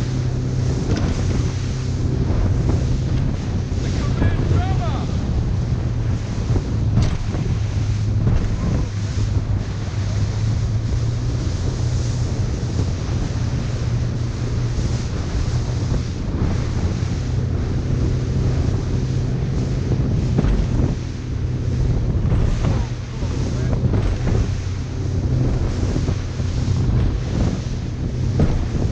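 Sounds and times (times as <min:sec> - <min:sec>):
boat engine running: 0:00.0 - 0:28.9
sea water washing: 0:00.0 - 0:28.9
wind buffeting microphone: 0:00.0 - 0:28.9.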